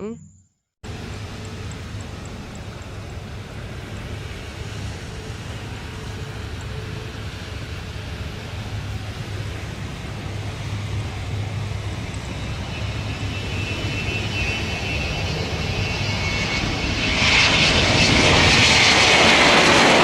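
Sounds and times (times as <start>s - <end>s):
airplane engine whine: 0.0s - 20.0s.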